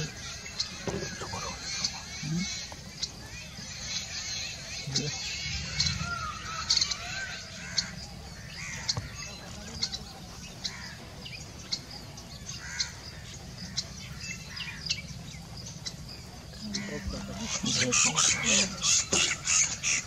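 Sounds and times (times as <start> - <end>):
lower bird calls: 0.0 - 20.0.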